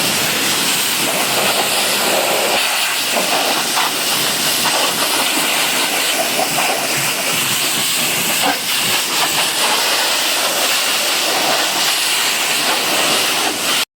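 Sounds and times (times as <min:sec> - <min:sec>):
pressure washer spraying water: 0:00.0 - 0:13.9.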